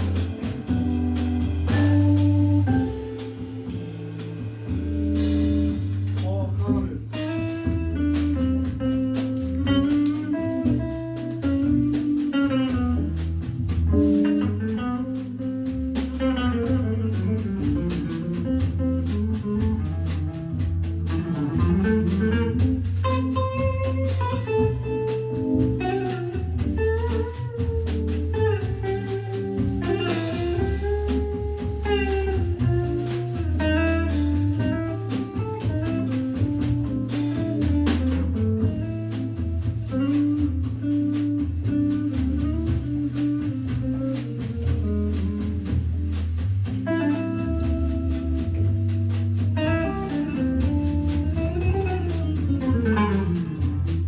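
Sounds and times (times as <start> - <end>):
electric guitar lines: 0.0 - 46.1, 46.7 - 54.0
drum kit keeping time: 0.0 - 54.0
organ bass notes: 0.0 - 54.0.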